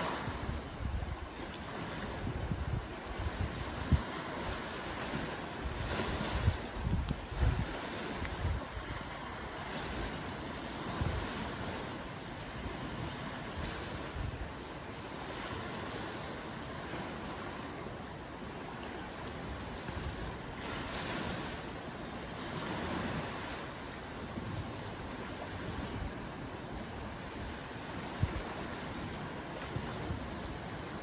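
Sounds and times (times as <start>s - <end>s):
wind buffeting microphone: 0.0s - 17.5s, 22.2s - 31.0s
small waves washing ashore: 0.0s - 31.0s.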